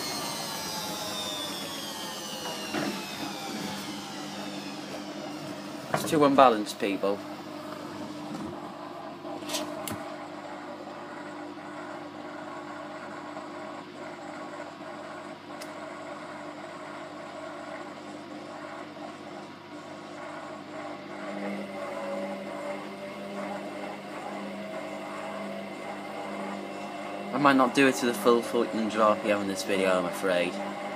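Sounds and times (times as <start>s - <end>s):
rising whine of spinning drum: 0.0s - 15.3s, 19.7s - 30.9s
washing machine motor hum: 0.0s - 30.9s.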